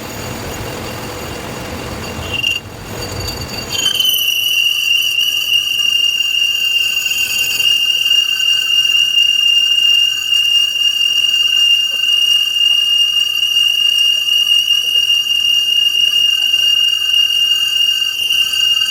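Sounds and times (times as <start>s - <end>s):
metal lathe whining: 0.0s - 18.9s.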